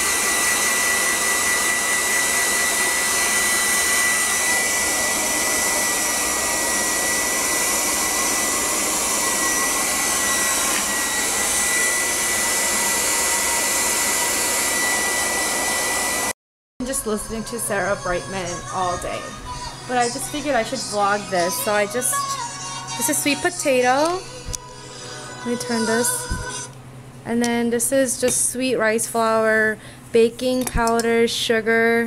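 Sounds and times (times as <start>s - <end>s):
hair dryer running: 0.0s - 26.8s.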